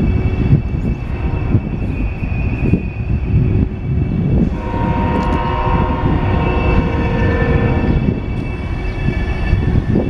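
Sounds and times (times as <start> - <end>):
freight cars rumbling past: 0.0 - 10.0.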